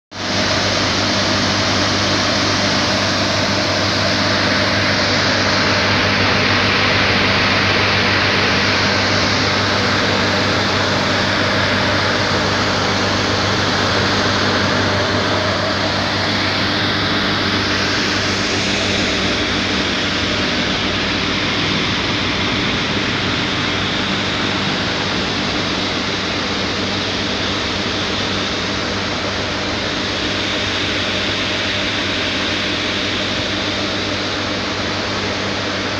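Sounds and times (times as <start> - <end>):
low hum: 0.1 - 35.9
machinery roar: 0.1 - 35.9.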